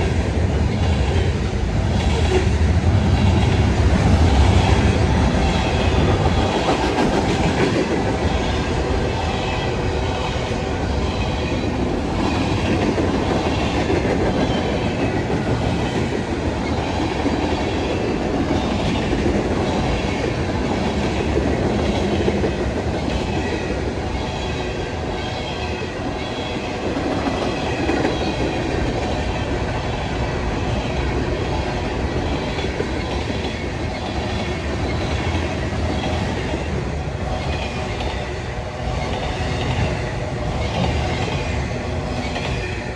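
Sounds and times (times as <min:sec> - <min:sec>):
train rolling along track: 0:00.0 - 0:42.9.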